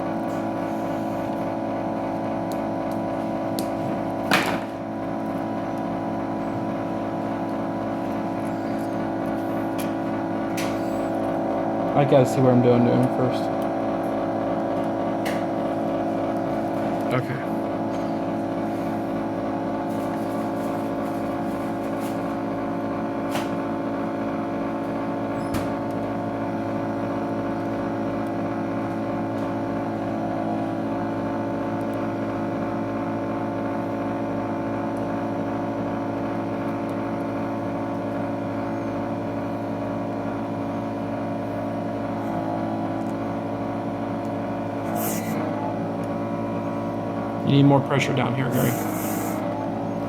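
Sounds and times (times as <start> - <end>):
vacuum pump motor hum: 0.0 - 50.0.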